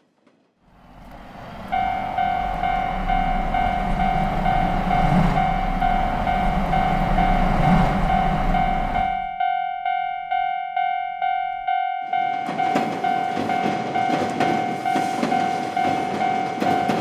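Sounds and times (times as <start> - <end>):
train rumbling: 0.7 - 9.4, 11.4 - 17.0
railroad crossing alarm ringing: 0.7 - 17.0.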